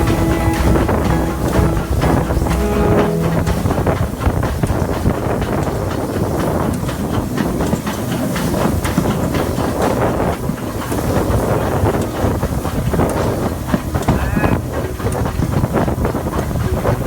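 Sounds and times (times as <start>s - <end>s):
train rumbling and hissing: 0.0s - 17.0s
wheels clicking and knocking: 0.0s - 17.0s.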